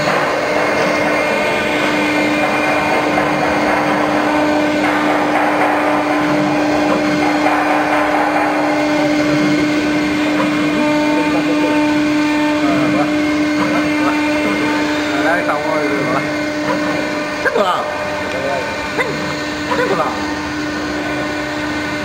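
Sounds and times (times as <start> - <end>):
router spindle whine: 0.0 - 22.0
rushing noise of cutting: 0.0 - 22.0.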